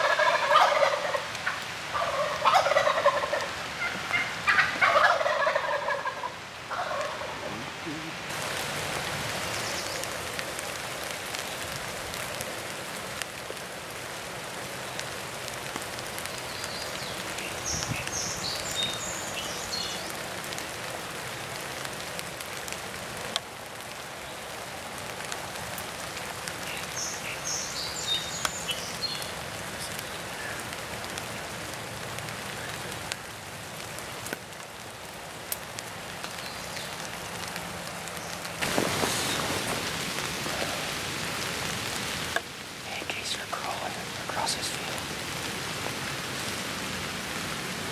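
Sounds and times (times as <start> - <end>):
rain falling on leaves: 0.0 - 47.9.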